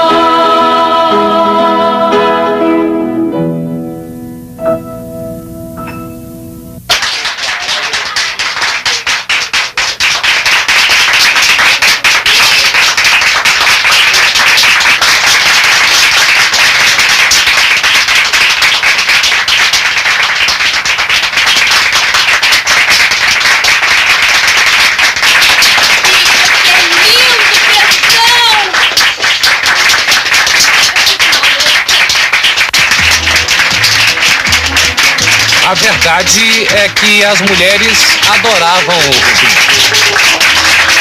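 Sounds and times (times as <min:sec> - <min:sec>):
crowd applauding: 0:06.9 - 0:41.0.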